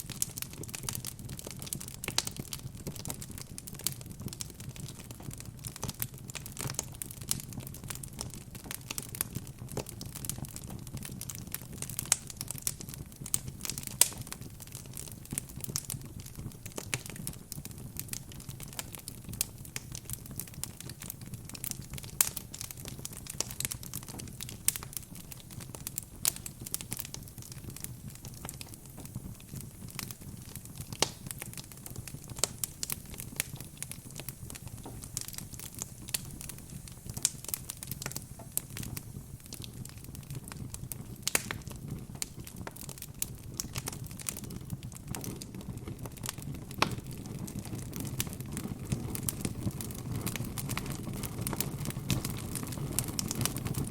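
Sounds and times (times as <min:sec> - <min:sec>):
low rumble of flames: 0:00.0 - 0:53.9
pops and snaps of burning logs: 0:00.0 - 0:53.9.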